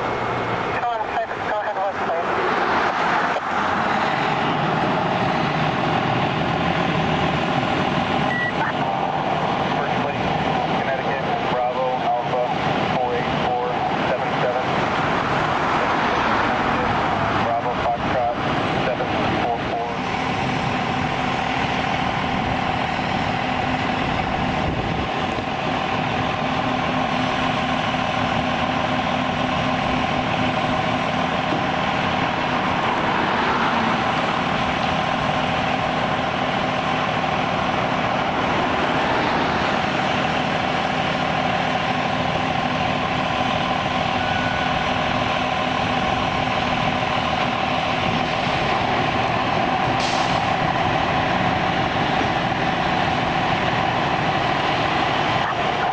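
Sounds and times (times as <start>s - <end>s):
constant engine whine: 0.0s - 55.9s
truck engine running: 0.0s - 55.9s.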